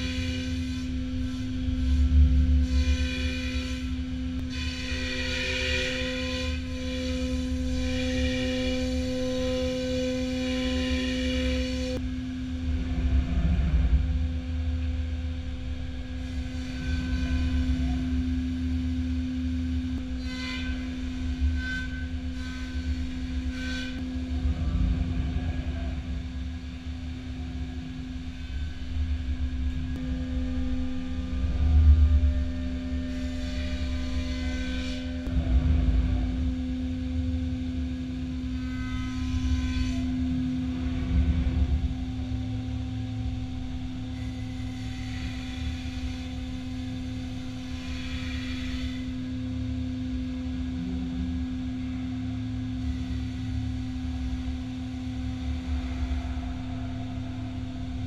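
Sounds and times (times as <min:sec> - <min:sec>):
high-pitched cutting whine: 0:00.0 - 0:58.0
router spindle hum and rumble: 0:00.0 - 0:58.0.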